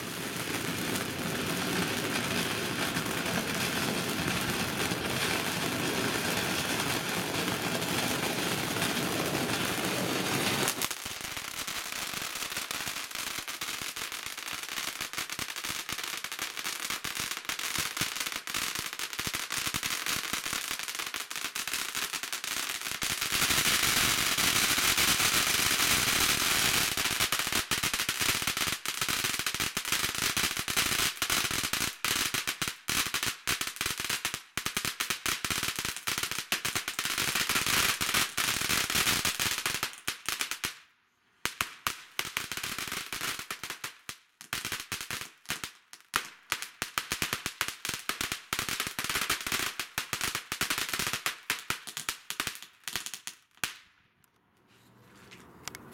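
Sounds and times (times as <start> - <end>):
firework fountain hissing and crackling: 0.0 - 40.8, 41.5 - 53.8.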